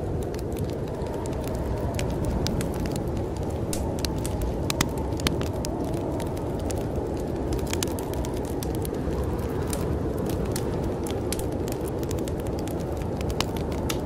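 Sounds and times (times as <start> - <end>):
storm wind rushing: 0.0 - 14.0
wood fire crackling and popping: 0.0 - 14.0.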